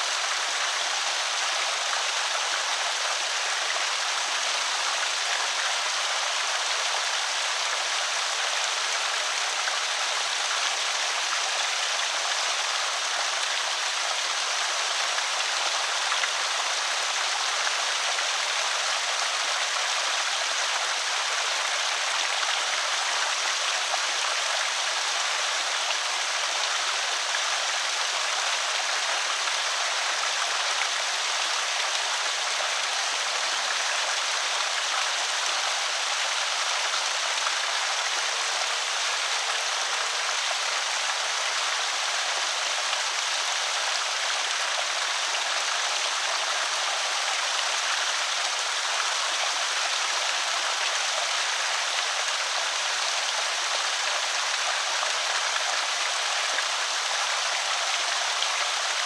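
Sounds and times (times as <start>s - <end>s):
water pouring over a spillway: 0.0s - 59.0s.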